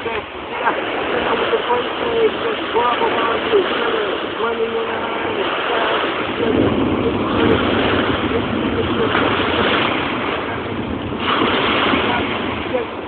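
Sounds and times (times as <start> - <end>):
small waves washing ashore: 0.0 - 13.0
wind on microphone: 0.0 - 13.0.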